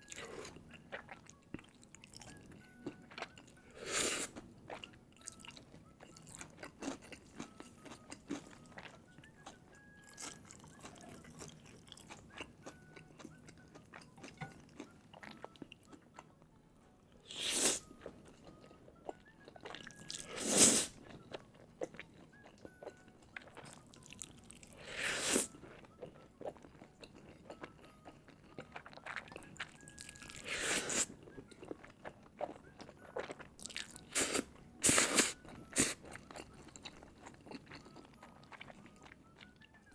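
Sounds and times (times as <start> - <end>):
chewing with wet clicks: 0.0 - 17.2, 17.8 - 39.9.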